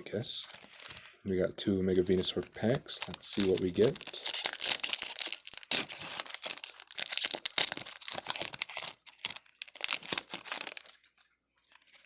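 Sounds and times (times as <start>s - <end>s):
foil wrapper tearing and crinkling: 0.4s - 1.2s, 2.0s - 12.0s.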